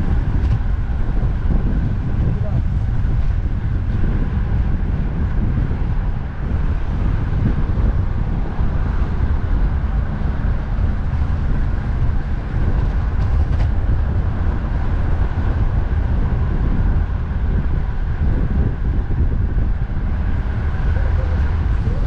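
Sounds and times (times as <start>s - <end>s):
road traffic rushing: 0.0s - 22.0s
wind buffeting microphone: 0.0s - 22.0s.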